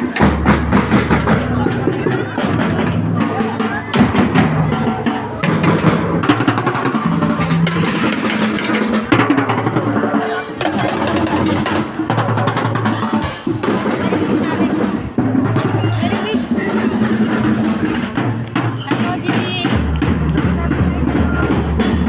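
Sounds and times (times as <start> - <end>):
drum kit: 0.0 - 22.0.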